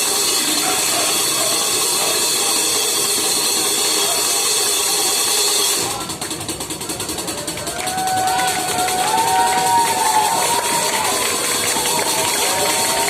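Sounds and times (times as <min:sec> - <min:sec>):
metal percussion roll: 0:00.0 - 0:13.0.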